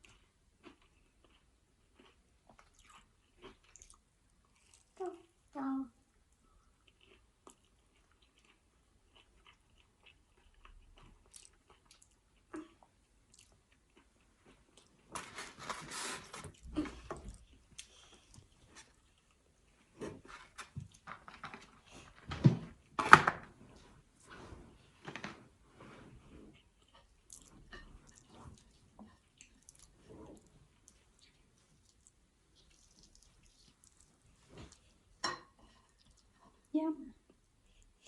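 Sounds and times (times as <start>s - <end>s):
crunchy chewing of fried food: 0.0s - 5.4s, 6.3s - 22.2s, 26.5s - 36.7s.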